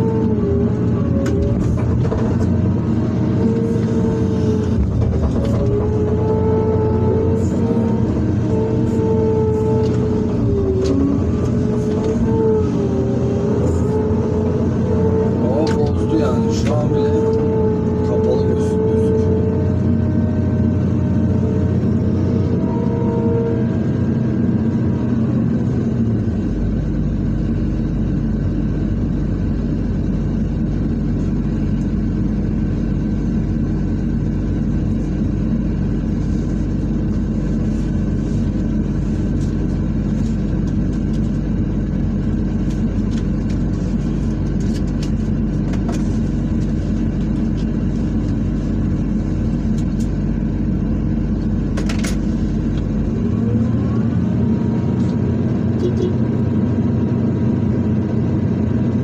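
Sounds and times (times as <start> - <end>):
diesel engine running under load: 0.0 - 59.0.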